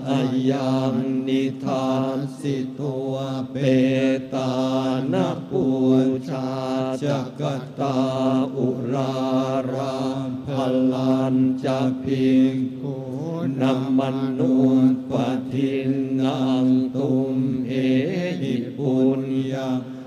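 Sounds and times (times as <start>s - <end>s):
monks chanting in unison: 0.0s - 20.0s.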